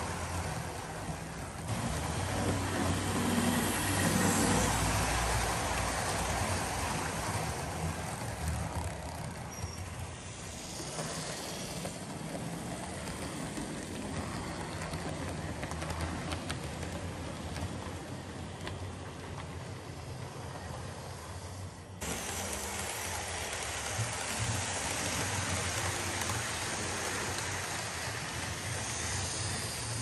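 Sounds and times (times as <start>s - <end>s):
small wheels clattering on rails: 0.0s - 20.7s, 22.0s - 30.0s.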